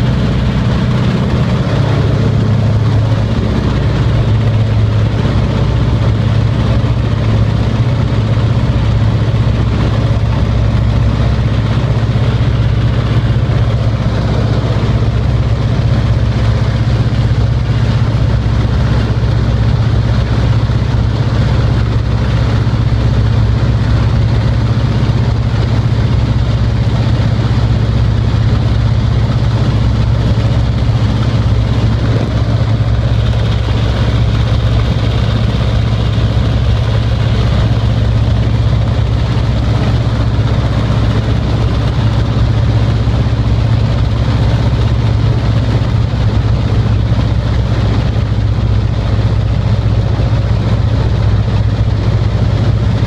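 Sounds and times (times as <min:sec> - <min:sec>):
aircraft radial engine droning: 0:00.0 - 0:53.0.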